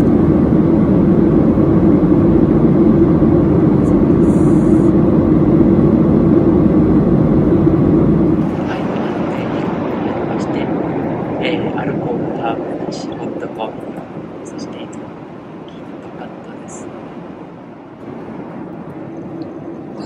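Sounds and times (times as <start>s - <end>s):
jet engine and airflow rush: 0.0s - 20.0s
steady low drone: 0.0s - 20.0s.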